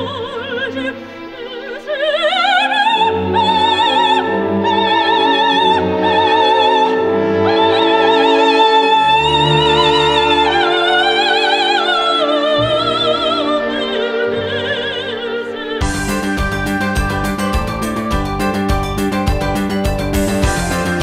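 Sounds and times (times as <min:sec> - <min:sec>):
operatic singing with vibrato: 0:00.0 - 0:18.8
orchestral accompaniment: 0:00.0 - 0:21.0.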